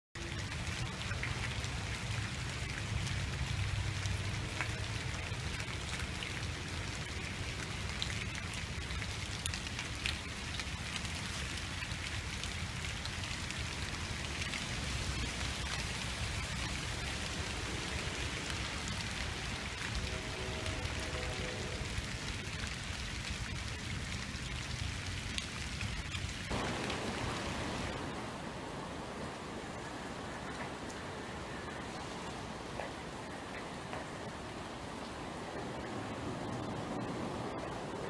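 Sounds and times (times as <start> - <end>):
rain on paved path and leaves: 0.2 - 38.0.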